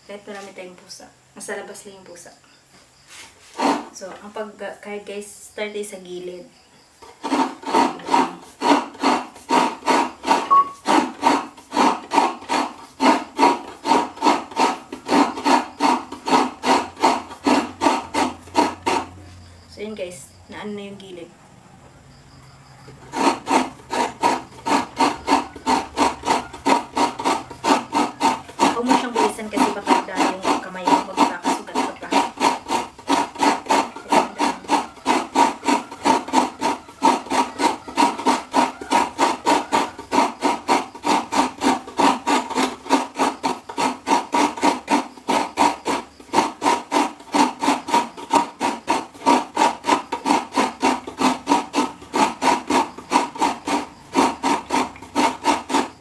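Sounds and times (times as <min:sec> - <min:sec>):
coconut grater rasping: 0:03.0 - 0:04.3, 0:06.8 - 0:20.3, 0:22.2 - 0:56.0.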